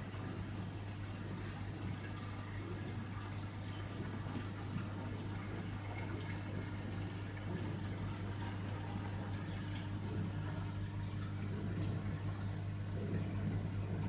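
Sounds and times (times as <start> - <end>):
steady low hum: 0.0 - 14.0
water trickling and dripping: 0.0 - 14.0.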